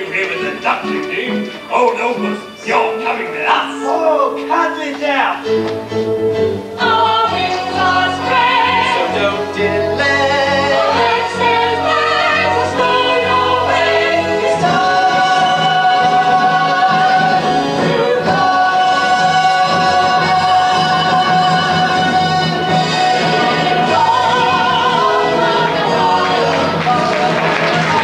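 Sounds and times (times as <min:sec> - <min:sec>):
ensemble singing with accompaniment: 0:00.0 - 0:28.0.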